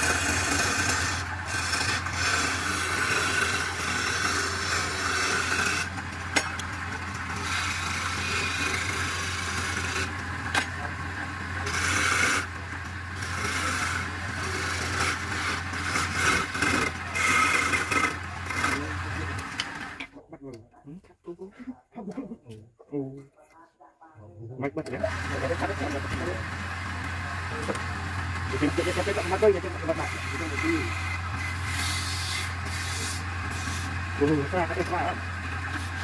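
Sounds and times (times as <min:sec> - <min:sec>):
chisel scraping spinning wood: 0:00.0 - 0:20.1, 0:24.9 - 0:36.0
lathe humming: 0:00.0 - 0:20.1, 0:24.9 - 0:36.0.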